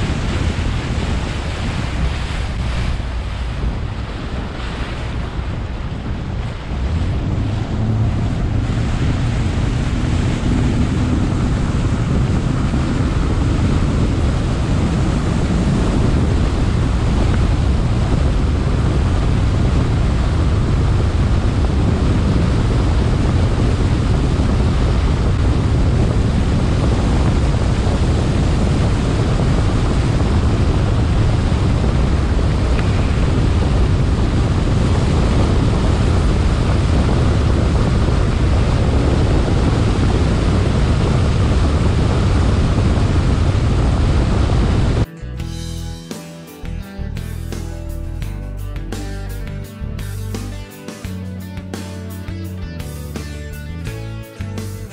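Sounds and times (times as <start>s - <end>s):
wind buffeting microphone: 0.0s - 45.1s
outboard motor running: 0.0s - 45.8s
water rushing past boat hull: 0.0s - 45.8s.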